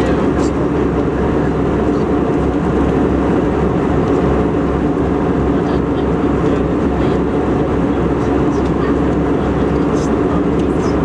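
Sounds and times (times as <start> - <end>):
jet airliner cabin noise: 0.0 - 11.0.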